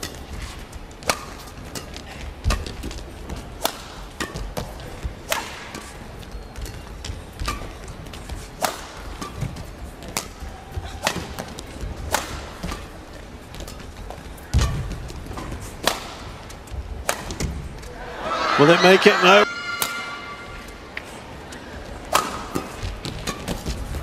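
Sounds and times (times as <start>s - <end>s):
rackets hitting shuttlecock: 0.0s - 18.0s, 18.8s - 24.0s.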